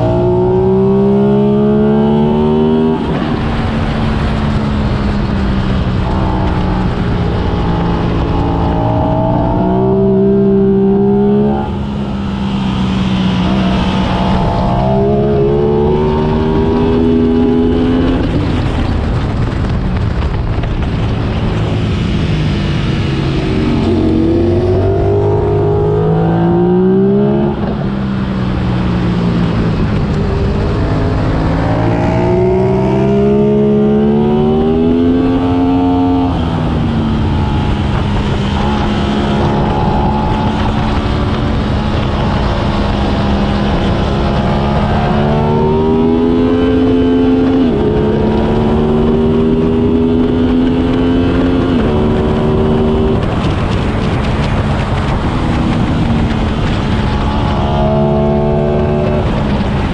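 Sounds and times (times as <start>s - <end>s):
motorcycle engine revving: 0.0s - 19.7s, 20.7s - 28.6s, 29.3s - 59.9s
wind rush: 0.0s - 59.9s.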